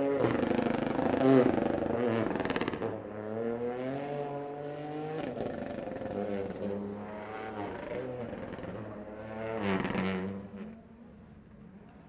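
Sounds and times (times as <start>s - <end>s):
rally car engine revving: 0.0s - 10.8s.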